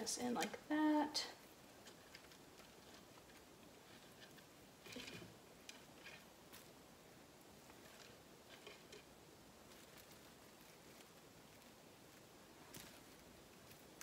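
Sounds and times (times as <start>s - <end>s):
leaves rustling: 1.4s - 14.0s.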